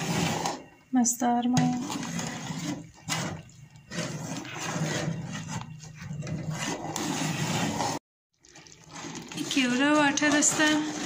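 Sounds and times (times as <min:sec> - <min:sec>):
ladle stirring in metal pot: 0:00.0 - 0:00.9, 0:01.6 - 0:11.0.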